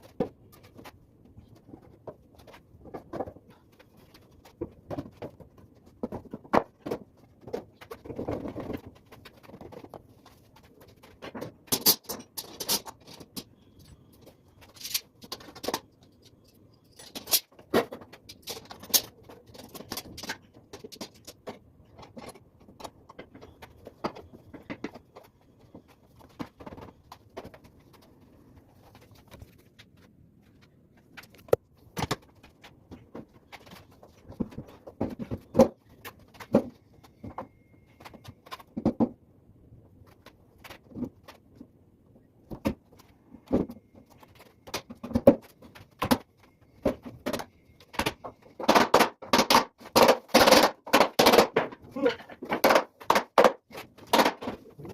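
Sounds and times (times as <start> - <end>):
wooden parts knocking and clattering: 0.0 - 39.3, 42.4 - 54.9.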